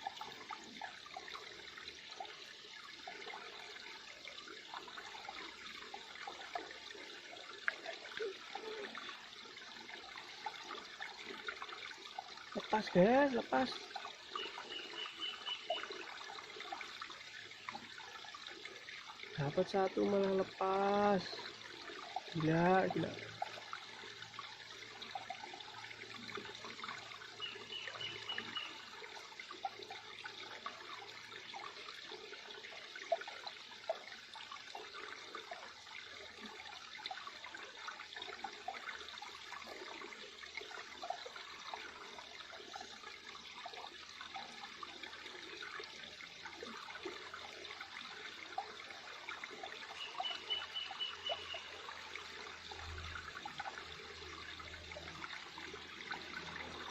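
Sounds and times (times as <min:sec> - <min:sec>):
river water babbling: 0:00.0 - 0:56.9.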